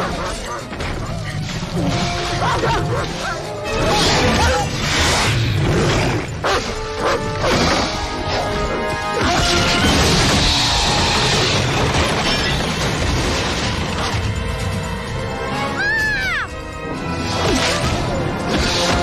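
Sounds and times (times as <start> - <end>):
film score music: 0.0 - 19.0.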